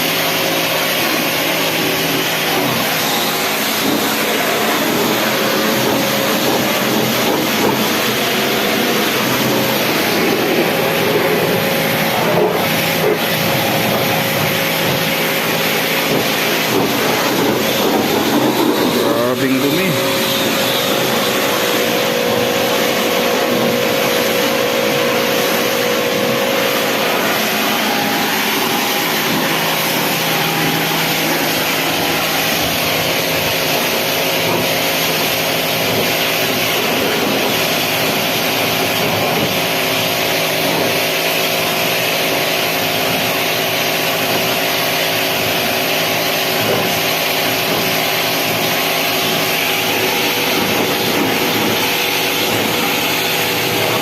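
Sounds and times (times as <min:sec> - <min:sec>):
pressure washer spraying: 0:00.0 - 0:54.0.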